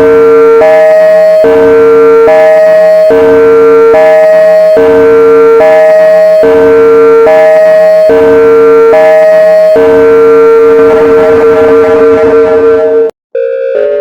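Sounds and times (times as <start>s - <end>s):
alternating alarm chords: 0.0s - 14.0s
higher alarm tone: 0.0s - 14.0s.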